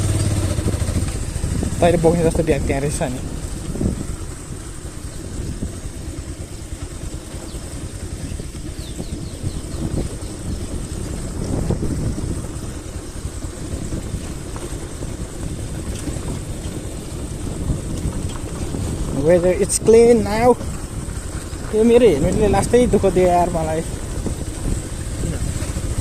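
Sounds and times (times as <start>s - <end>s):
motorcycle engine and road noise: 0.0s - 26.0s.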